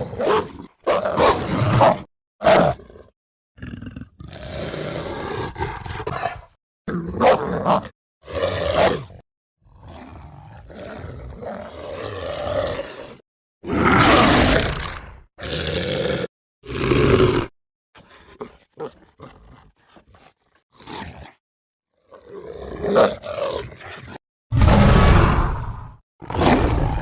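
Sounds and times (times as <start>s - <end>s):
creature roars and growls: 0.0s - 19.8s, 22.0s - 27.0s.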